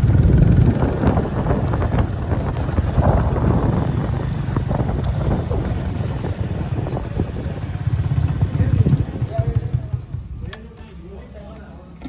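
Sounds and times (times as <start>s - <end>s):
wind buffeting microphone: 0.0s - 10.5s
motorcycle engine rumbling: 0.0s - 12.0s.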